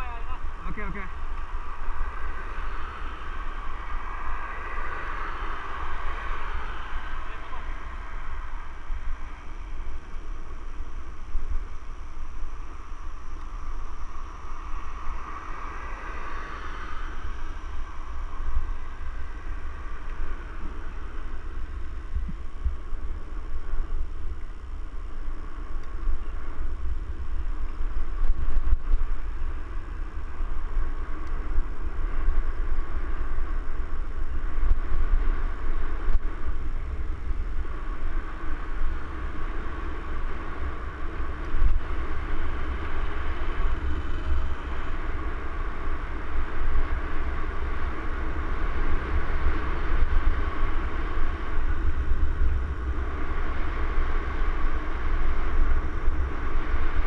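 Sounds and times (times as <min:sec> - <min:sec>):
rolling tyre hiss: 0:00.0 - 0:57.0
wind buffeting microphone: 0:00.0 - 0:57.0.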